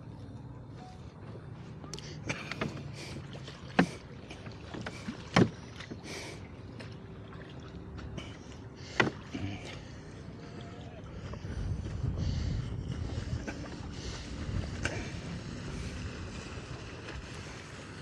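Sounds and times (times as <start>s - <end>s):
water lapping around a boat: 0.0s - 18.0s.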